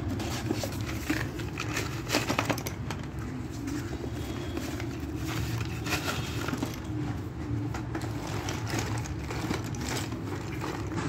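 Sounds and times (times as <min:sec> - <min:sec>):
slate pencils clicking and rattling: 0:00.0 - 0:07.0, 0:07.7 - 0:11.0.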